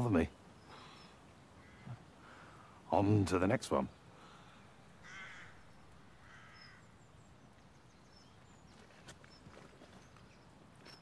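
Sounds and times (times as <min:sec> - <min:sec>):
harsh bird calls: 0:00.0 - 0:11.0
small birds chirping: 0:00.0 - 0:11.0.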